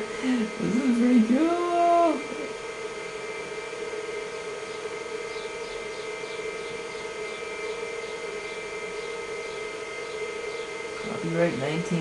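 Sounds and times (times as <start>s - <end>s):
computer fan and hard drive hum: 0.0s - 12.0s
steady whining tones: 0.0s - 12.0s.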